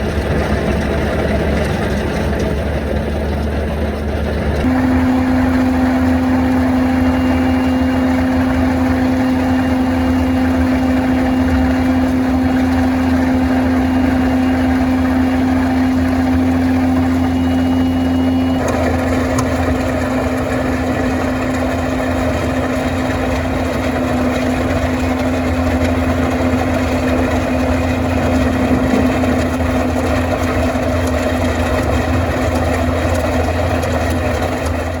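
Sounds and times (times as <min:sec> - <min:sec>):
skid steer engine under load: 0:00.0 - 0:35.0.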